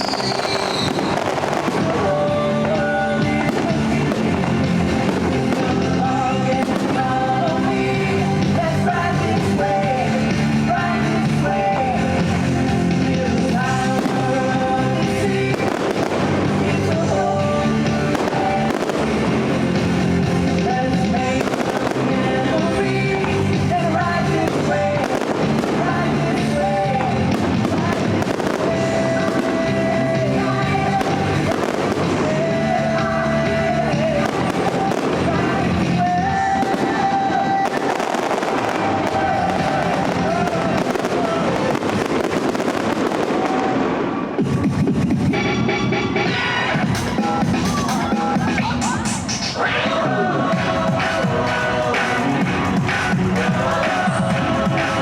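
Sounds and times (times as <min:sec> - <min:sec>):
fireworks bangs and crackles: 0:00.0 - 0:45.6, 0:50.5 - 0:55.0
music soundtrack: 0:00.0 - 0:55.0.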